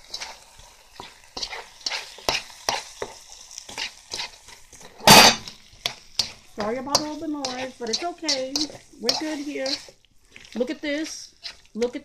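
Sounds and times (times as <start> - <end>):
faint sizzle: 0.0 - 12.0
utensil scraping a pan: 0.0 - 12.0.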